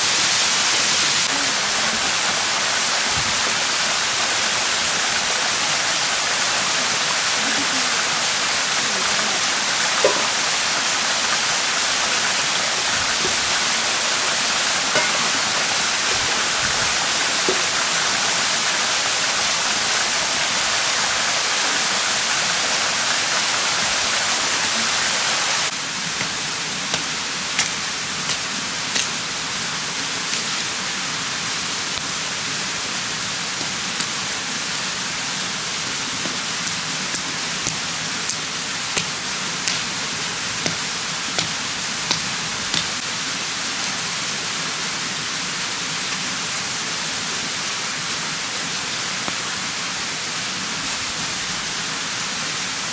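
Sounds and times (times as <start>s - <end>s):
mountain stream rushing: 0.0s - 52.9s.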